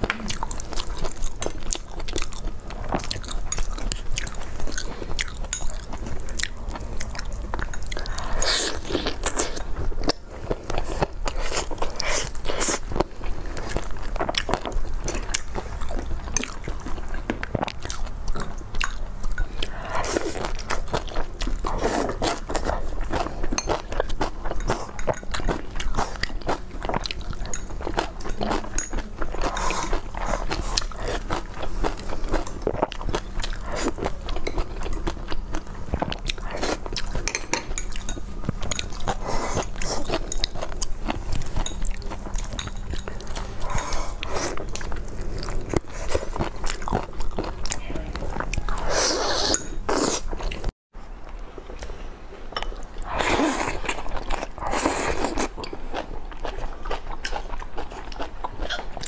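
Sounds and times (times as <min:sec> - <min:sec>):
biting and wet chewing: 0:00.0 - 0:59.0.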